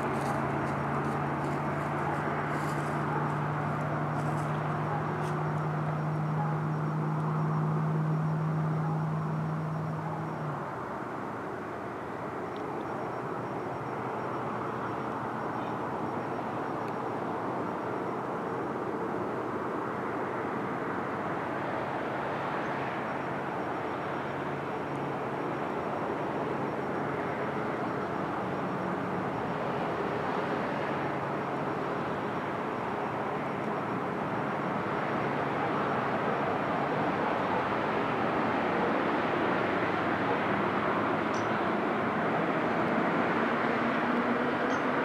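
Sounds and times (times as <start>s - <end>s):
distant engines droning: 0.0s - 45.0s.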